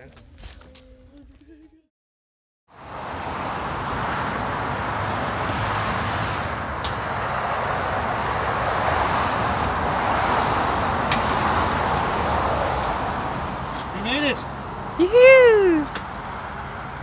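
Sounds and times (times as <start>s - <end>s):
road traffic passing: 2.7s - 17.0s.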